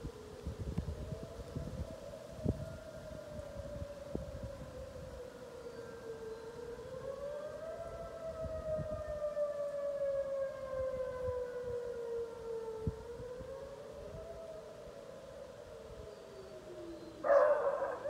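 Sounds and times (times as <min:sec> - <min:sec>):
outdoor warning siren wailing: 0:00.0 - 0:18.0.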